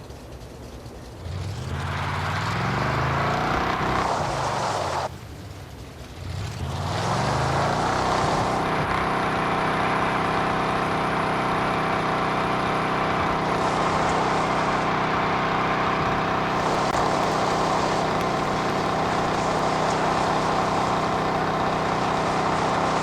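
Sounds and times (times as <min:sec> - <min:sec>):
truck engine revving: 0:01.1 - 0:05.2, 0:05.8 - 0:23.0.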